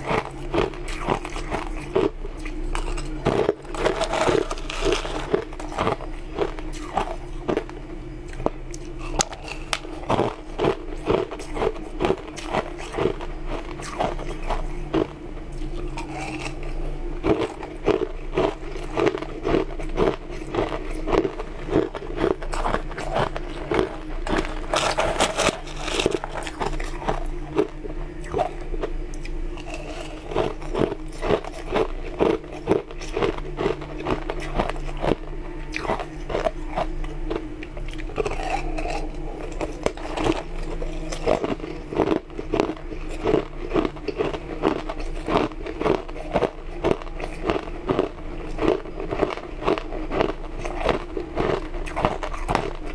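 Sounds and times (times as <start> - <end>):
ice being chewed: 0.0 - 52.9
steady low hum: 0.0 - 52.9.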